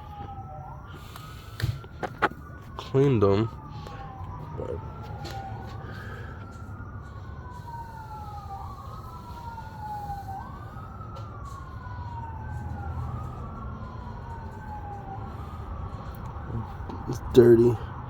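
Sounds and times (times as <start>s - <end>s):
emergency siren wailing: 0.0s - 18.0s
second wailing siren tone: 0.0s - 18.0s.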